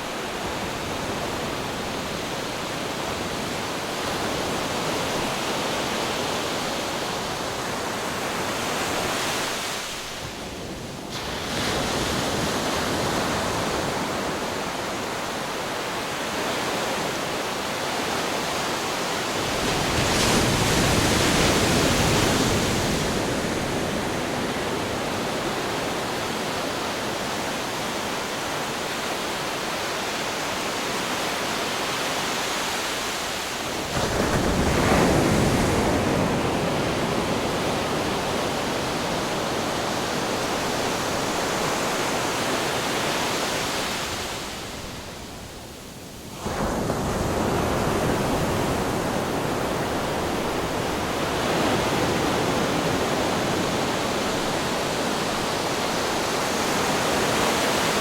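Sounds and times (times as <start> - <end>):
ocean waves breaking on rocks: 0.0 - 45.6, 46.4 - 58.0.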